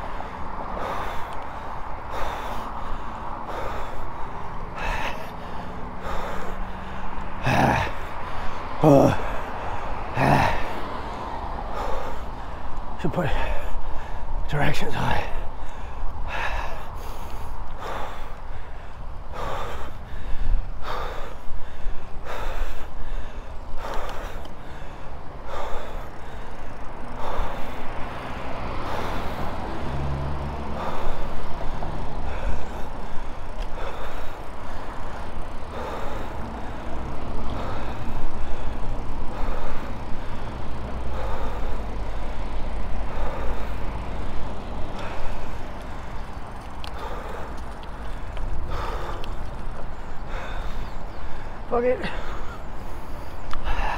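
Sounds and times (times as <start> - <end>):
cyclist breathing hard: 0.0 - 53.9
wind and road noise: 0.0 - 53.9.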